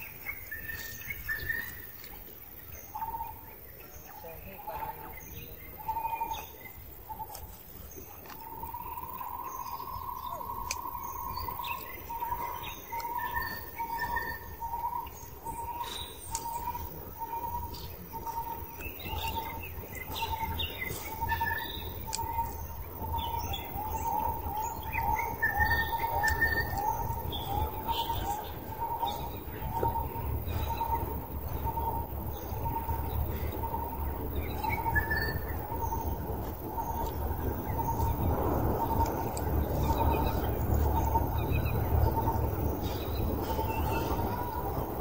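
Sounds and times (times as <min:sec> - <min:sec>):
higher bird chirps: 0:02.6 - 0:45.0.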